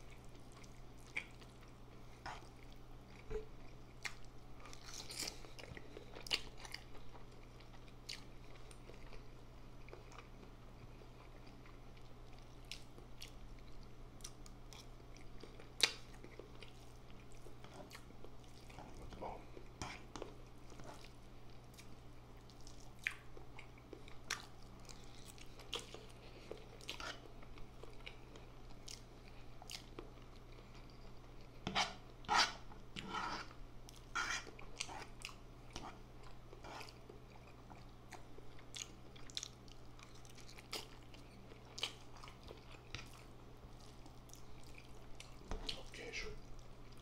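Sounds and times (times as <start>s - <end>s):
chewing and mouth sounds: 0.0s - 47.0s.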